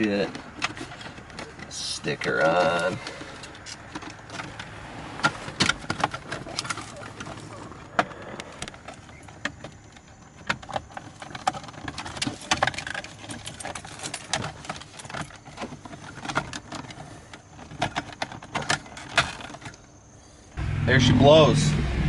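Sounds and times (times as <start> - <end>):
small parts clicking and rattling: 0.0 - 19.9.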